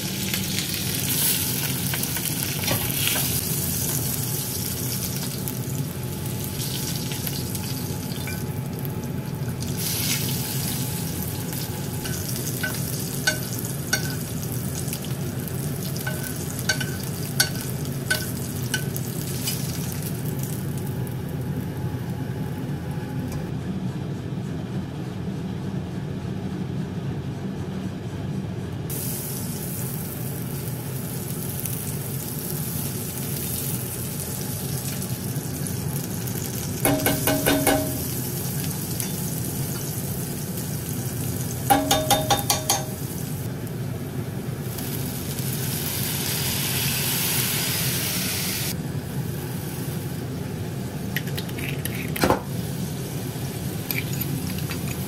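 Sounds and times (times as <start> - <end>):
onions sizzling in a frying pan: 0.0 - 21.6, 28.9 - 51.2, 52.5 - 55.0.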